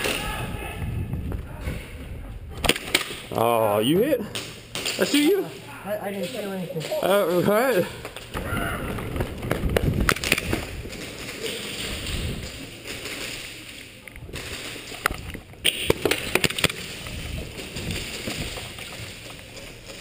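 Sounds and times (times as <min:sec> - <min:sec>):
rustling movement: 0:01.0 - 0:20.0.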